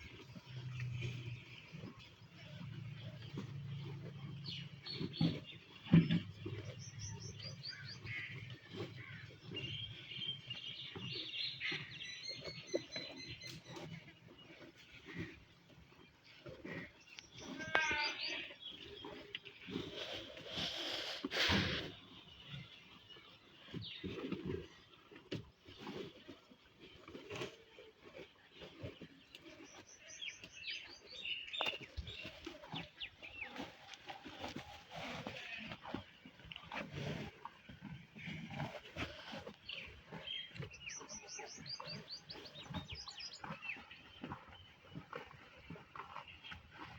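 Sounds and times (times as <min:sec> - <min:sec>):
buffalo chewing grass: 0:00.0 - 0:46.9
small birds chirping: 0:00.0 - 0:46.9.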